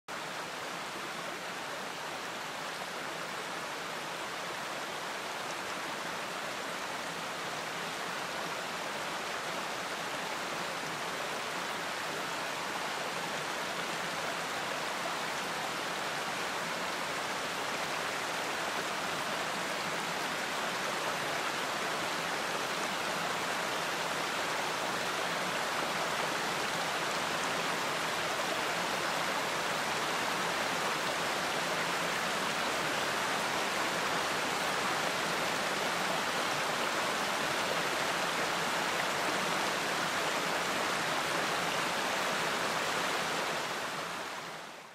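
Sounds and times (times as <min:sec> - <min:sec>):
stream rushing over stones: 0:00.1 - 0:44.9.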